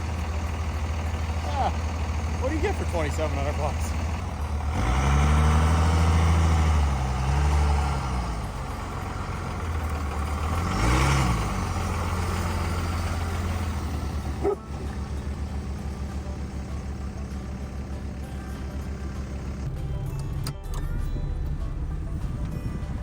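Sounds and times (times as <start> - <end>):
pickup truck engine revving: 0.0 - 23.0.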